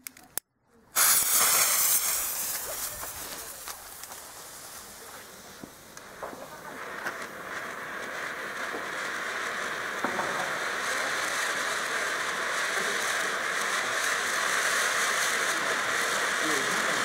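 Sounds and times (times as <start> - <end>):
firework fountain hissing: 1.0 - 17.0.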